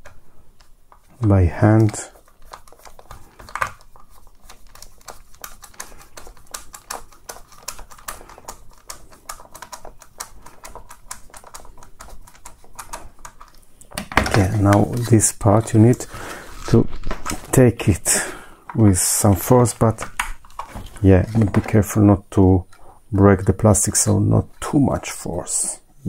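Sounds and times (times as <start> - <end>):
plastic parts clicking and rattling: 0.0 - 17.6, 18.7 - 22.0.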